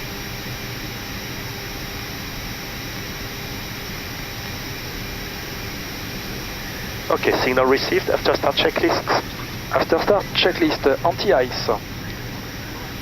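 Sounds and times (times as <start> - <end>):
cockpit hiss and hum: 0.5 - 13.0
faint steady tones: 0.5 - 13.0.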